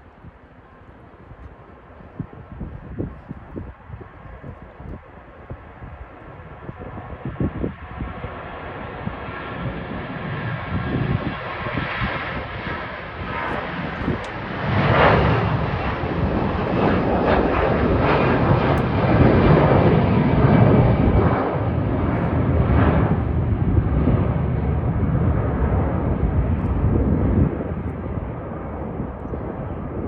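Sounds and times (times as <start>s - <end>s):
jet airliner engines whining: 0.0s - 30.0s.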